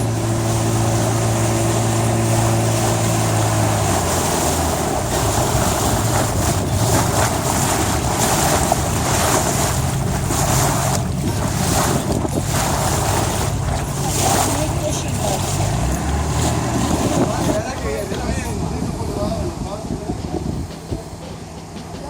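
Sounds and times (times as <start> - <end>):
engine humming: 0.0 - 22.0
wind on microphone: 0.0 - 22.0.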